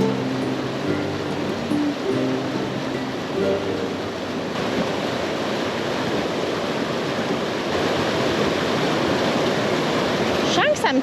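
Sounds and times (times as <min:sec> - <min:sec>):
river water rushing: 0:00.0 - 0:10.6.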